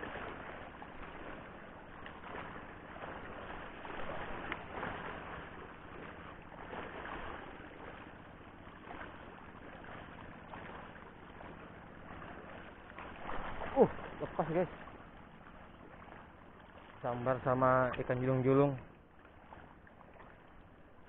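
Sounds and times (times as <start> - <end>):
waves lapping against rocks: 0.0 - 21.0.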